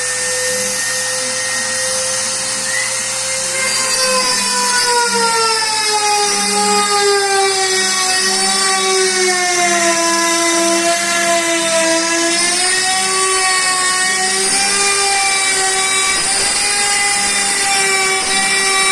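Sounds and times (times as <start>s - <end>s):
cutting noise: 0.0s - 18.9s
router spindle whining: 0.0s - 18.9s.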